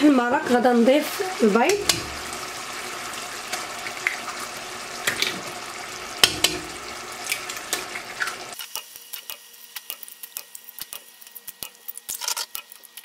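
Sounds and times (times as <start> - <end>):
broth sizzling in pot: 0.0 - 13.0.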